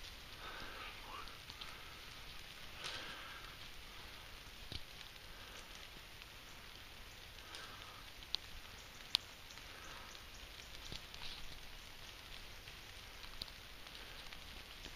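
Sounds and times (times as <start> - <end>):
rustling dry leaves: 0.0 - 14.9.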